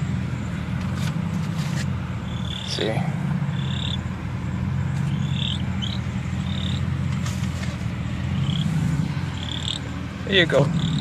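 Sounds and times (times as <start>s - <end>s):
birds chirping: 0.0s - 11.0s
car engine idling: 0.0s - 11.0s.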